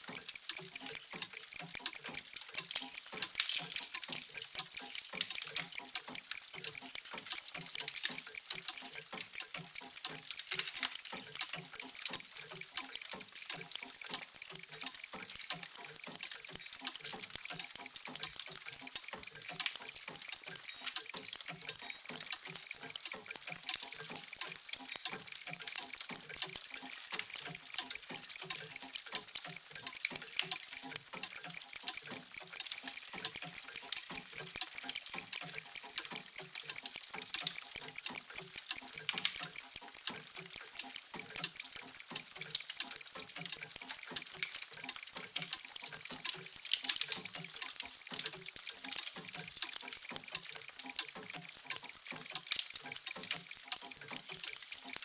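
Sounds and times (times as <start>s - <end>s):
mechanical clocks ticking: 0.0s - 55.0s.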